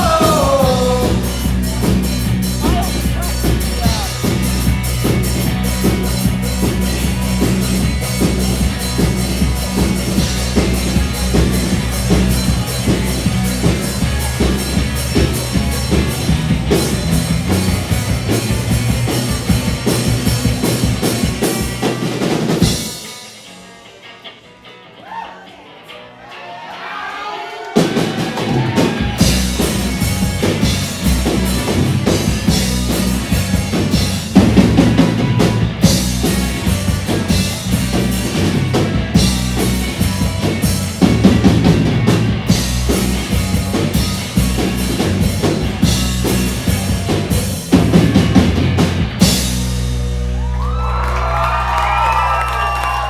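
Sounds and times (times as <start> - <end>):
drum kit: 0.0 - 23.8, 27.7 - 53.0
live band playing: 0.0 - 24.9, 27.5 - 52.2.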